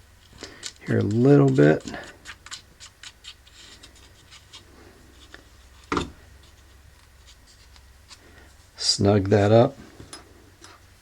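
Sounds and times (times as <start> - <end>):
faint clicks and rubbing of parts: 0.2 - 10.9.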